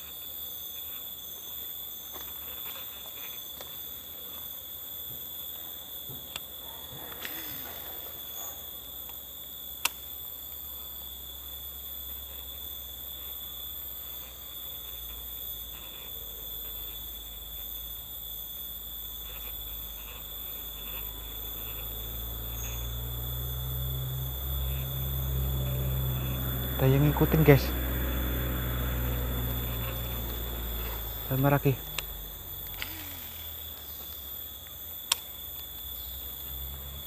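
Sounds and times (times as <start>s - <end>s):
forest insects droning: 0.0s - 37.0s.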